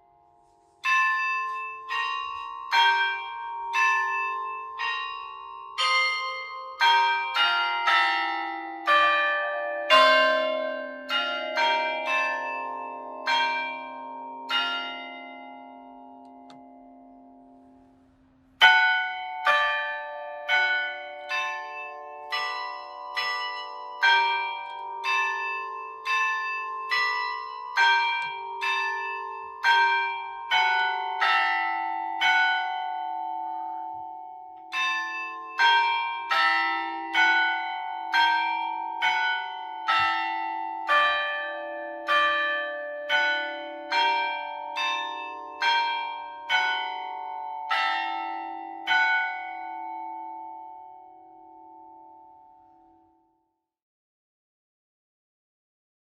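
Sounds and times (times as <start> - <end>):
church bells ringing a hymn: 0.0 - 53.5.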